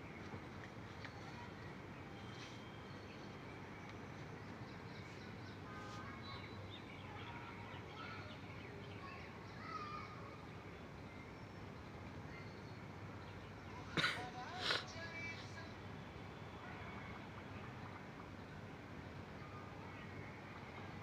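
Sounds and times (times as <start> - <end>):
birds chirping: 0.0 - 21.0
urban background hum: 0.0 - 21.0.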